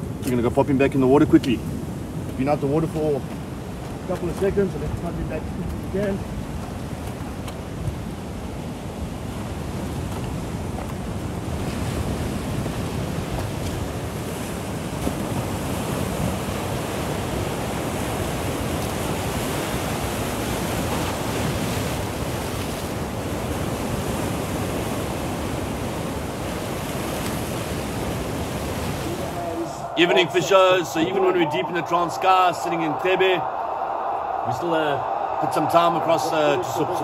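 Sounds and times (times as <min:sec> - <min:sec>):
ocean surf breaking on rocks: 0:00.0 - 0:37.0
wind buffeting microphone: 0:00.0 - 0:37.0.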